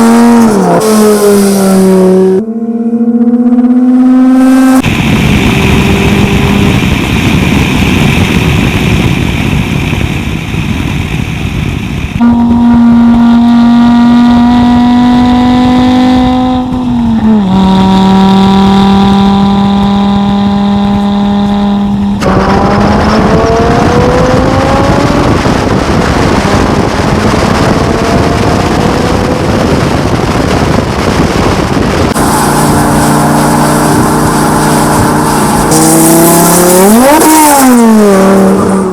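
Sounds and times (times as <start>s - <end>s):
car engine and exhaust: 0.0s - 38.9s.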